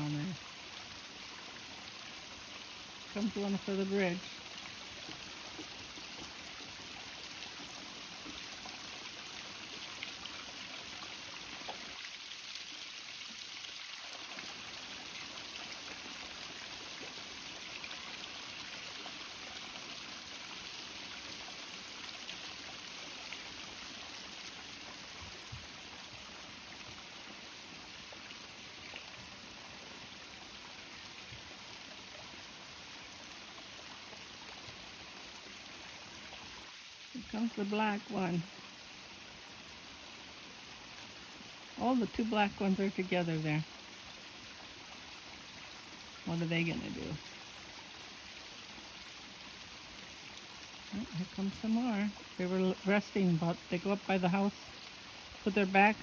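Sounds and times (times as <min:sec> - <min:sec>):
fountain water splashing and trickling: 0:00.0 - 0:56.0.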